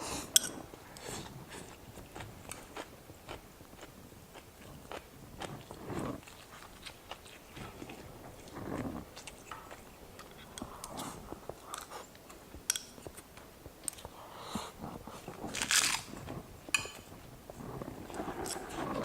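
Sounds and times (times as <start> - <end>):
person chewing food: 0.1 - 19.0.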